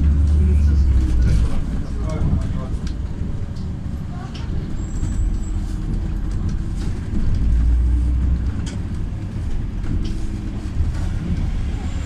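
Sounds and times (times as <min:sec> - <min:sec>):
bus engine low rumble: 0:00.0 - 0:12.0.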